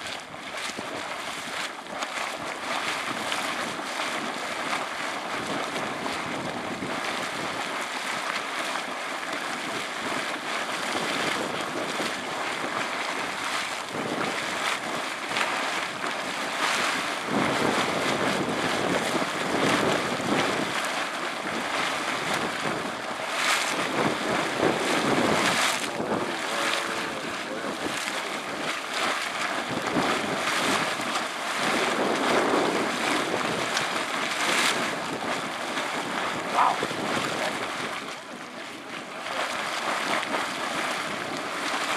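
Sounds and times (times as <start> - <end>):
boiling water gushing and splashing: 0.0 - 41.9.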